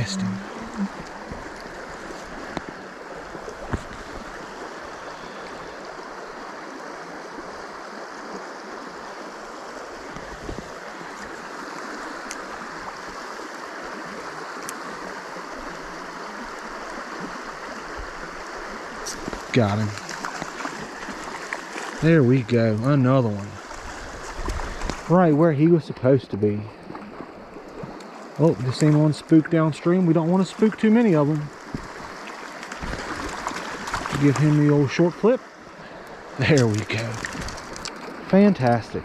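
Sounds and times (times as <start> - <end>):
creek water running: 0.0 - 39.0.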